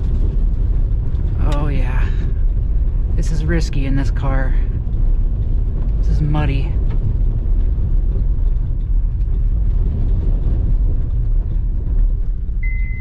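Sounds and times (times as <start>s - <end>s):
car driving on dirt track: 0.0s - 13.0s.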